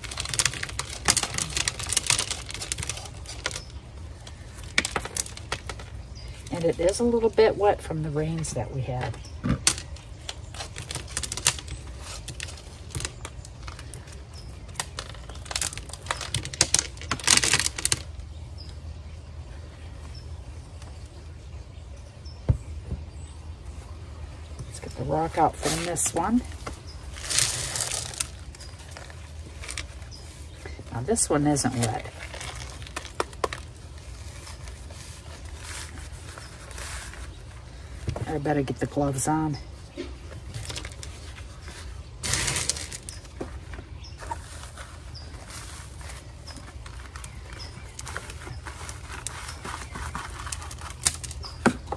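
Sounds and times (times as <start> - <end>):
soil and plastic rustling: 0.0 - 51.9.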